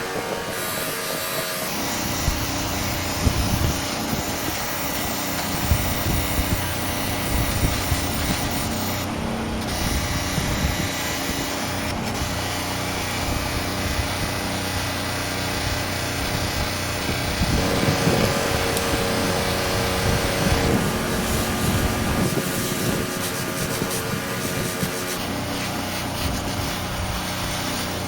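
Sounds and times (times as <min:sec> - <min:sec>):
motor hum: 0:00.0 - 0:28.0
power tool hissing: 0:00.0 - 0:28.0.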